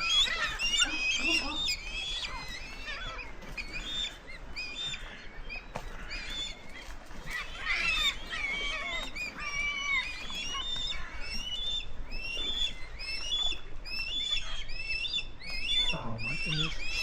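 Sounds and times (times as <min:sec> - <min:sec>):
birds whistling calls: 0:00.0 - 0:17.0.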